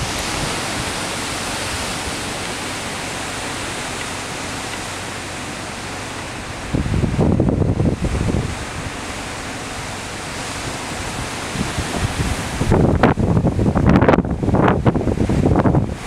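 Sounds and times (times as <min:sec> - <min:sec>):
low wind buffeting gusts: 0:00.0 - 0:16.0
wind hiss on microphone: 0:00.0 - 0:16.0.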